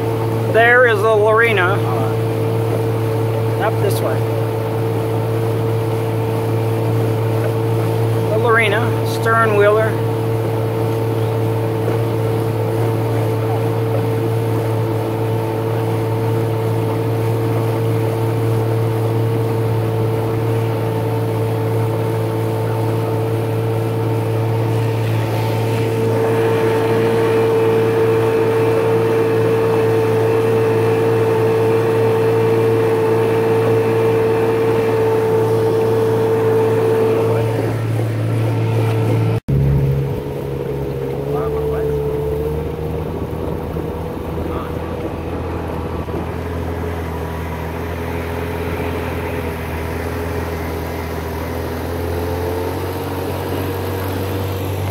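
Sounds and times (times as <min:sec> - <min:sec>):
motorboat engine droning: 0:00.0 - 0:54.9.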